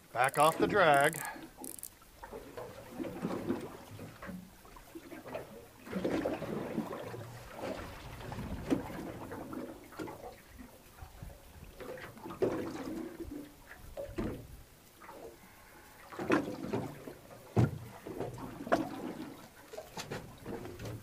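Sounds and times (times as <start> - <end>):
water sloshing against boat: 0.0 - 21.0.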